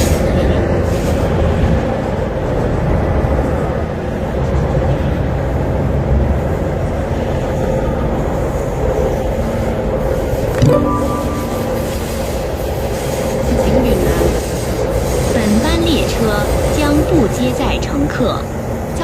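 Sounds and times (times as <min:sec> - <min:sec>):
train wheels rumbling on track: 0:00.0 - 0:10.5, 0:12.0 - 0:19.0
steady train hum: 0:00.0 - 0:19.0.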